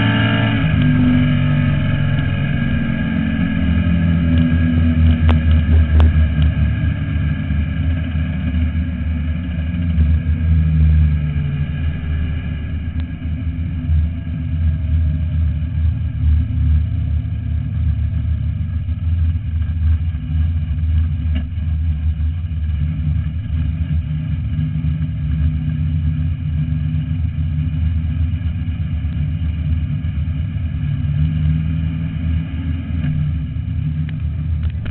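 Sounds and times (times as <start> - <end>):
race car engine rumbling: 0.0 - 34.9.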